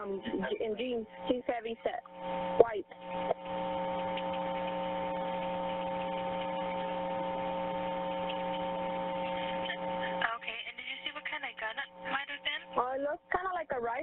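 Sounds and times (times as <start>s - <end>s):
telephone line hum: 0.0s - 12.9s.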